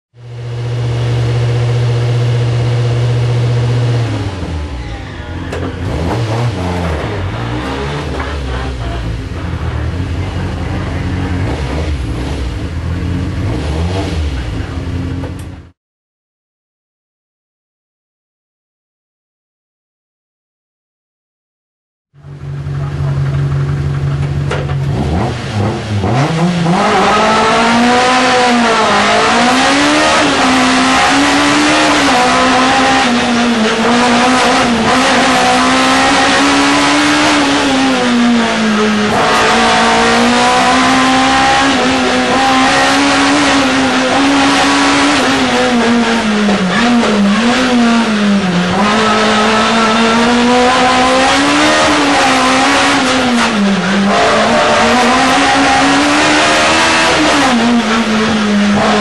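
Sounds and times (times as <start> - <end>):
race car engine at high revs: 0.2 - 15.8, 22.2 - 59.0.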